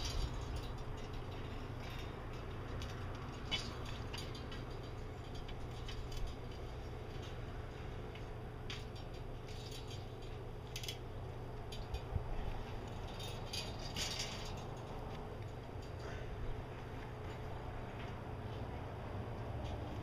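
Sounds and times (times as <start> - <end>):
metal poles clicking and rattling: 0.0 - 20.0
steady low rumble: 0.0 - 20.0.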